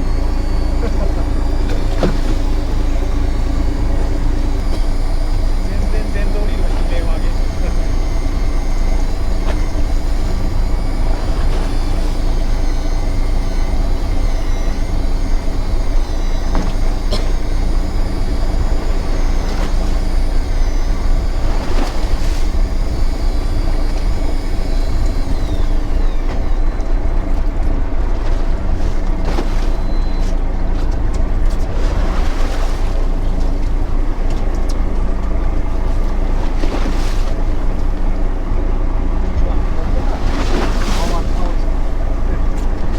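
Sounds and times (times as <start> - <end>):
electric fishing reel motor whining: 0.0 - 42.9
low engine rumble: 0.0 - 42.9.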